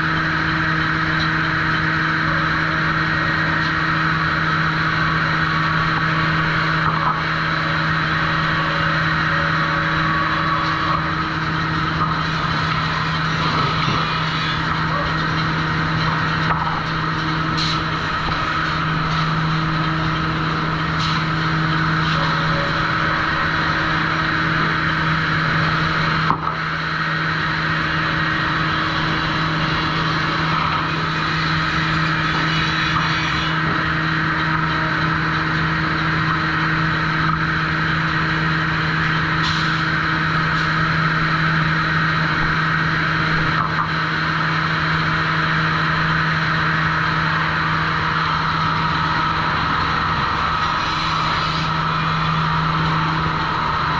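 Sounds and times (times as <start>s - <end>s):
saw machinery hum and whir: 0.0s - 53.9s.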